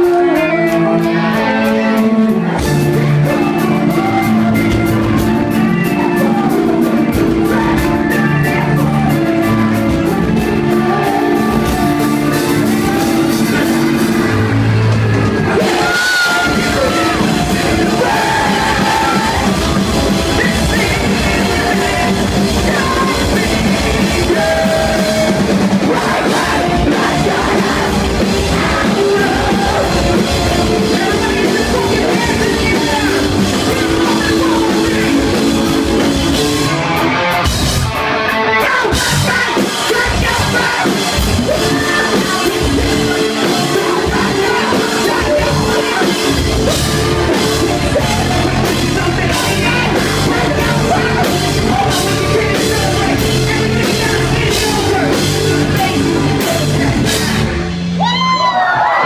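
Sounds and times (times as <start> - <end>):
person singing: 0.0 - 37.4, 38.0 - 59.0
distorted guitars: 0.0 - 59.0
drum kit: 0.0 - 59.0.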